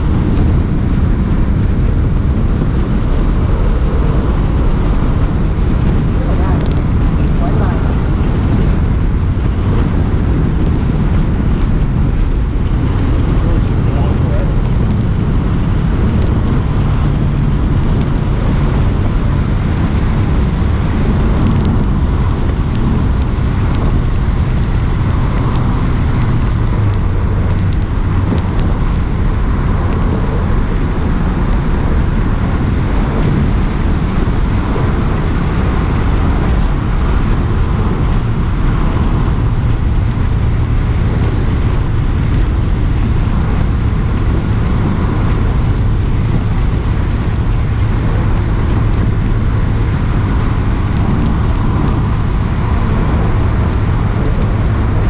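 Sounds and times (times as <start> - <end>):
car engine running: 0.0 - 55.0
road and wind noise: 0.0 - 55.0.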